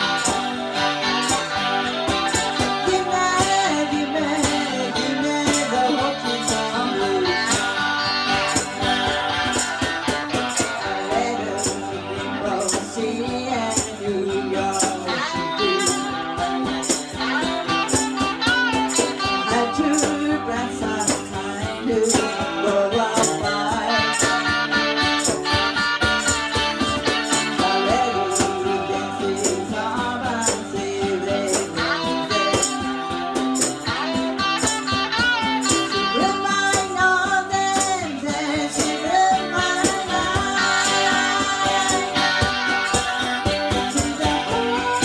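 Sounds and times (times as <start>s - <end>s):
small band playing country blues: 0.0s - 45.0s
tambourine shaken and struck: 0.0s - 45.0s.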